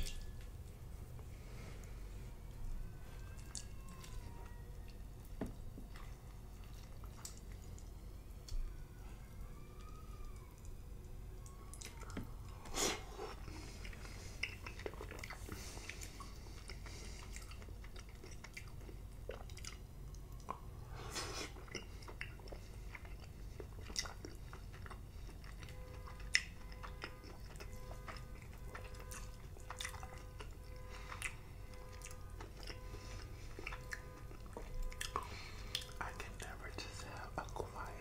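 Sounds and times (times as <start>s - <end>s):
wet chewing sounds: 0.0s - 38.0s.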